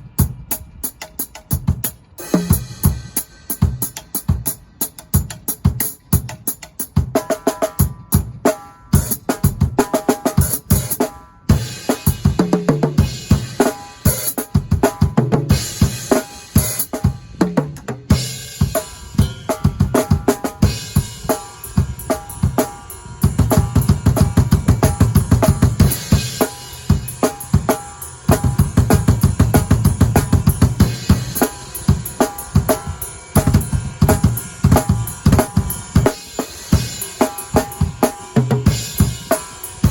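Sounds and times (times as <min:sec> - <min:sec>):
drum kit playing: 0:00.0 - 0:39.9
fast bass drum strokes: 0:00.0 - 0:39.9.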